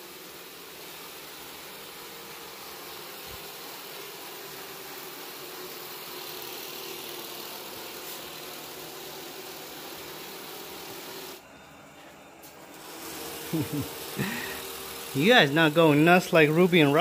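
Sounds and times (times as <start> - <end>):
robot vacuum whirring: 0.0 - 17.0.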